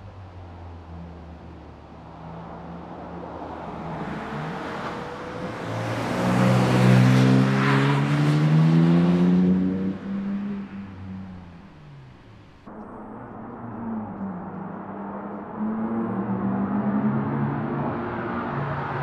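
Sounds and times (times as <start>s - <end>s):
car accelerating past: 2.2s - 12.0s, 12.9s - 19.0s.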